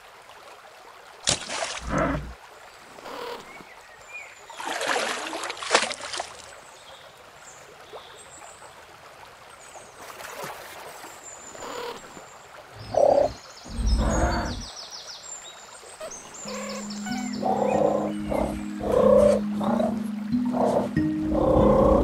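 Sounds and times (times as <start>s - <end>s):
trickling stream: 0.0s - 22.0s.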